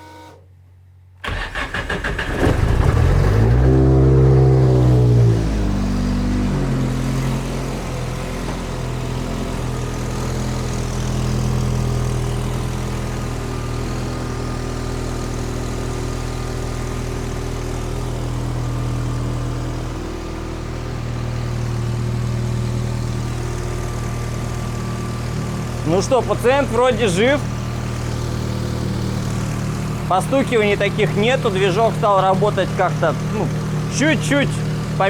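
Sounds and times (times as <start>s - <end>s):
car engine idling: 1.2s - 35.0s.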